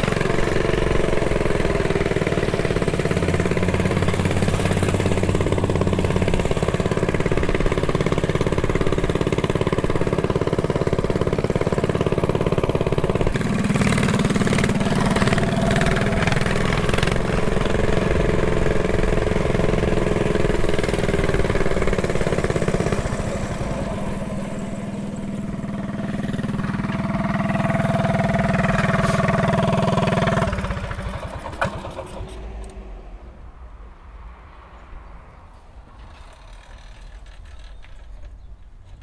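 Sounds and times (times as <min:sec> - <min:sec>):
mini bike engine running: 0:00.0 - 0:32.5.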